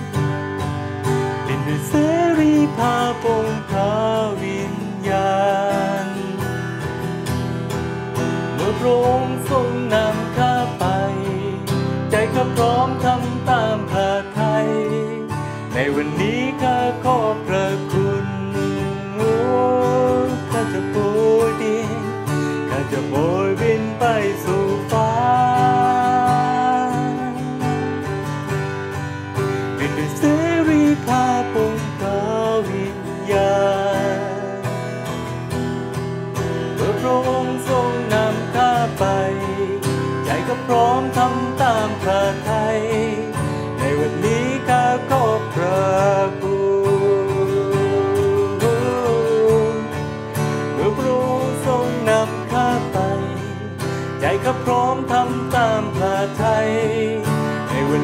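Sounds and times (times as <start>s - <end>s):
strummed acoustic guitar: 0.0s - 58.0s
man singing worship song: 1.5s - 6.5s, 8.6s - 28.1s, 29.8s - 34.8s, 36.8s - 50.0s, 50.7s - 58.0s.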